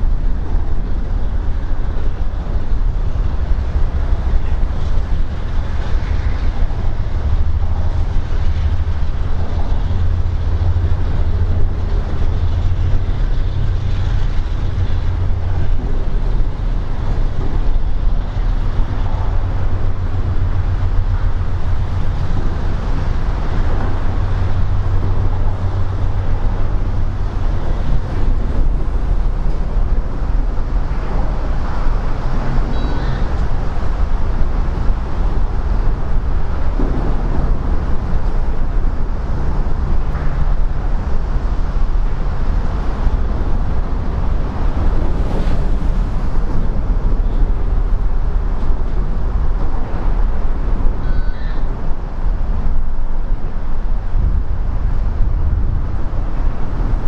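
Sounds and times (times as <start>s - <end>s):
diesel locomotive rumbling: 0.0s - 57.0s
rain: 0.0s - 57.0s
traffic noise: 0.0s - 57.0s.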